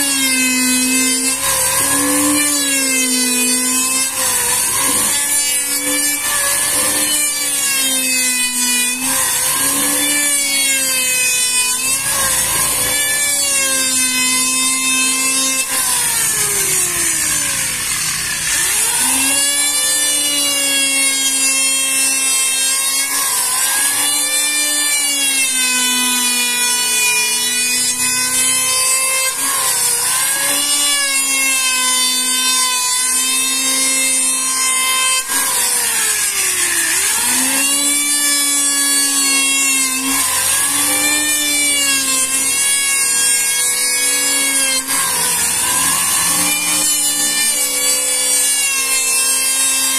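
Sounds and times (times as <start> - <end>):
electric wood planer cutting: 0.0 - 49.9.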